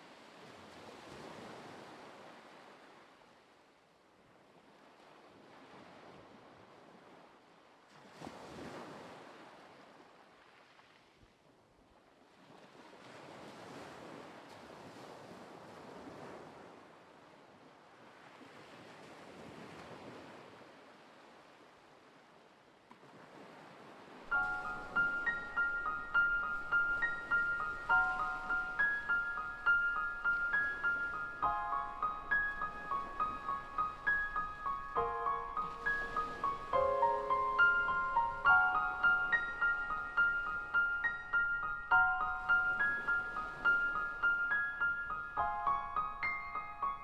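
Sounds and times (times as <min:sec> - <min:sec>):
faint ocean surf: 0:00.0 - 0:47.0.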